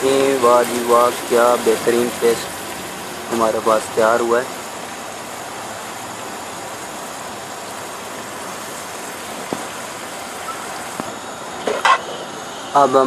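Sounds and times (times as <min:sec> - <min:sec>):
pot hissing on stove: 0:00.0 - 0:13.0.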